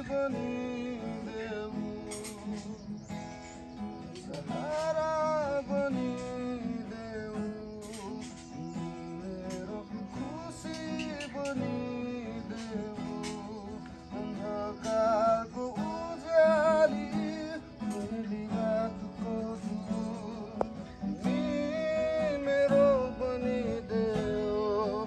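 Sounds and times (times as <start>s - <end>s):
man singing: 0.0s - 3.2s, 4.1s - 25.0s
acoustic guitar strumming: 0.0s - 25.0s.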